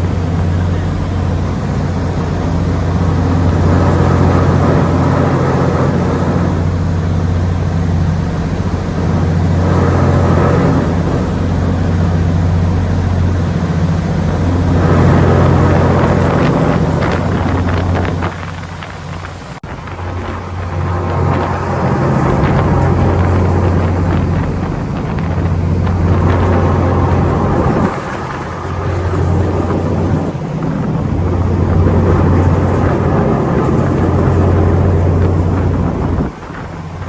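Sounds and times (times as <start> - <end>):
rushing noise: 0.0 - 37.0
ship diesel engine droning: 0.0 - 37.0.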